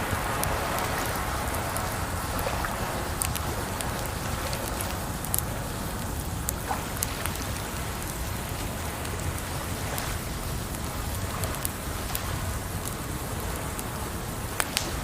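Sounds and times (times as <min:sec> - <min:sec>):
campfire crackling and popping: 0:00.0 - 0:15.0
rushing water: 0:00.0 - 0:15.0.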